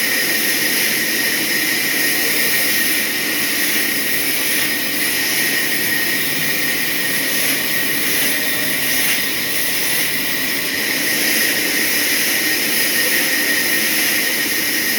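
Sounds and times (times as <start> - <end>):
saw cutting a log: 0.0 - 14.9.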